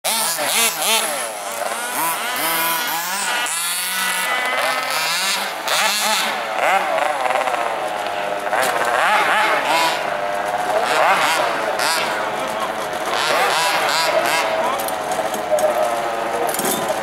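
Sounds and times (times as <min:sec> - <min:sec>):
model car engines revving: 0:00.0 - 0:17.0.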